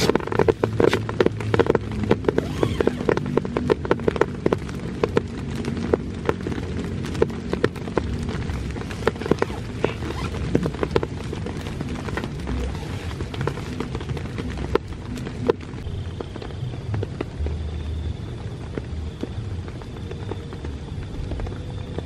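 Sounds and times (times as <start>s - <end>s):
heavy rain falling: 0.0s - 22.0s
large raindrops tapping: 0.0s - 22.0s.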